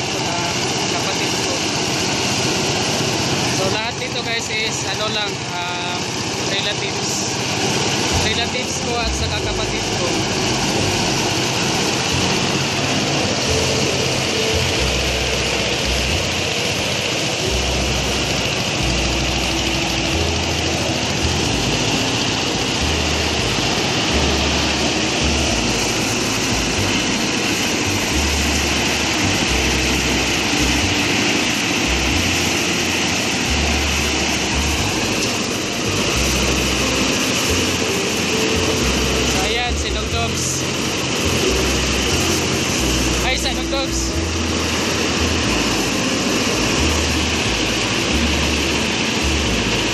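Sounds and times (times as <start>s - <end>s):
threshing machine engine rumbling: 0.0s - 49.9s.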